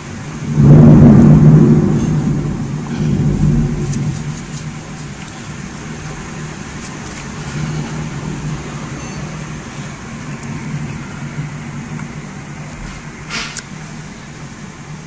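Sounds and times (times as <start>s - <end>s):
deep rumble: 0.0s - 15.0s
raindrops ticking: 0.0s - 15.0s
torrential rain: 0.0s - 15.0s
wind blowing through trees: 0.0s - 15.0s.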